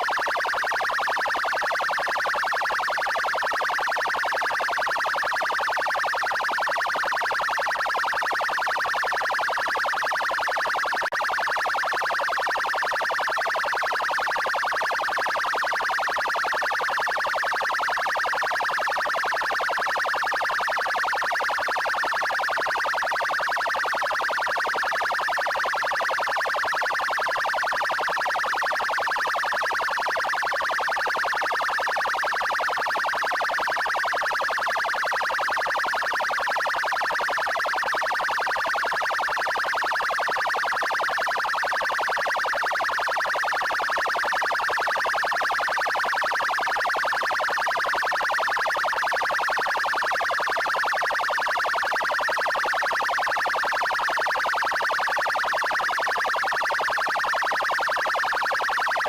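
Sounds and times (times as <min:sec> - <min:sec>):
fast-pulsing electronic siren: 0:00.0 - 0:59.0.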